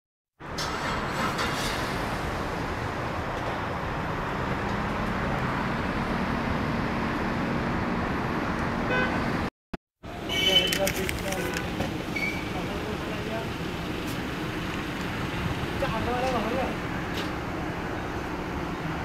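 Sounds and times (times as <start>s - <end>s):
traffic noise: 0.4s - 19.0s.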